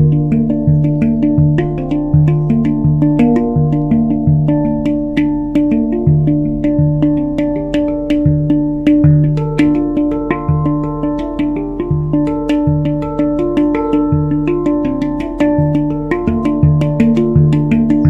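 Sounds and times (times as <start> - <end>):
handpan played by hand: 0.0 - 18.0.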